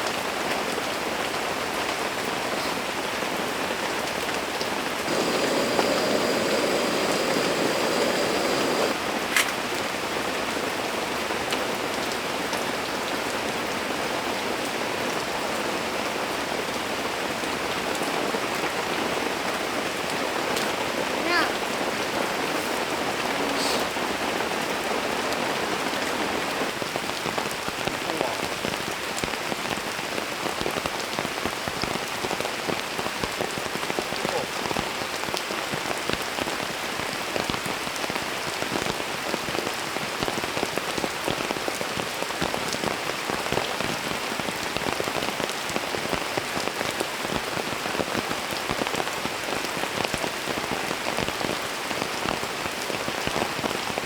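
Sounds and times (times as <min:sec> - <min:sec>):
raindrops ticking close by: 0:00.0 - 0:54.0
steady rain: 0:00.0 - 0:54.0.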